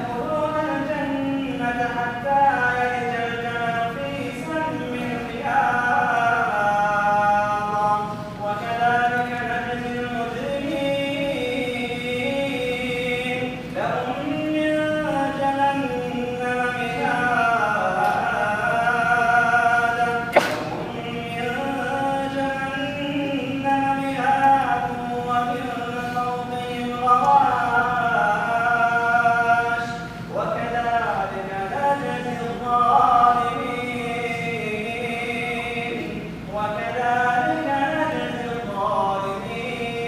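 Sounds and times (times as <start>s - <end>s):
man reciting melodically: 0.0s - 40.0s.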